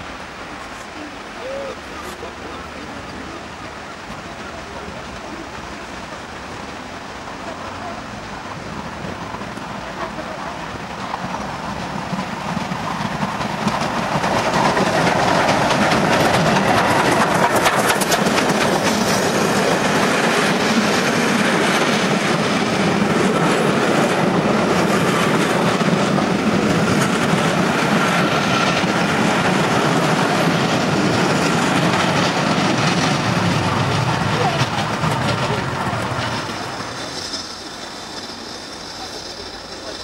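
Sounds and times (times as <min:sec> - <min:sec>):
steam train passing: 0:00.0 - 0:40.0
wheels clattering over rail joints: 0:07.2 - 0:40.0.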